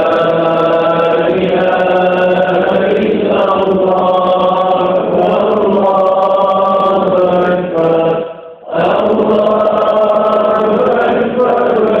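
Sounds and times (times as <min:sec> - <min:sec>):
men chanting together: 0:00.0 - 0:12.0.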